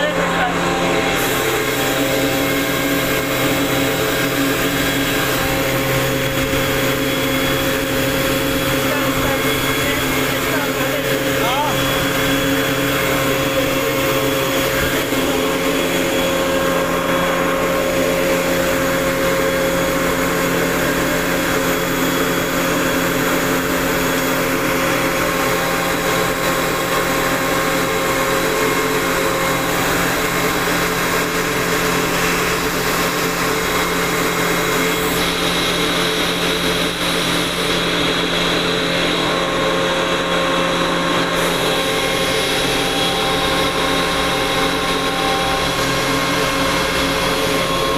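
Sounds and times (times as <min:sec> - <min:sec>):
air compressor humming: 0:00.0 - 0:47.9.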